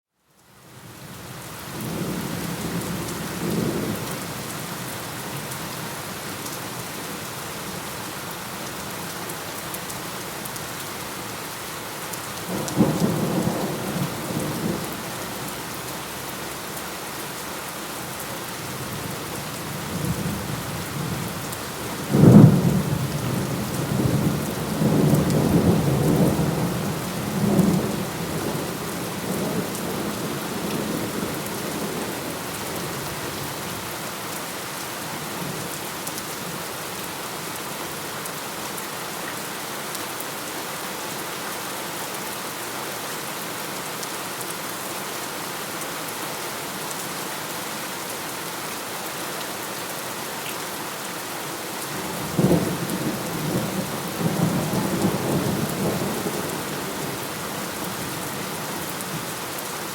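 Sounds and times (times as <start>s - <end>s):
heavy rain: 0.3s - 59.9s.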